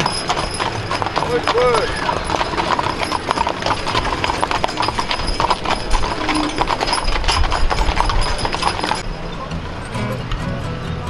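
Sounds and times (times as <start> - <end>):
hooves clip-clopping on asphalt: 0.0 - 9.5.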